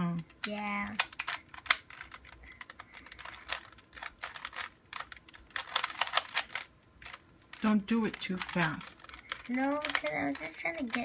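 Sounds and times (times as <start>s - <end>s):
puzzle cube clicking: 0.1s - 11.0s.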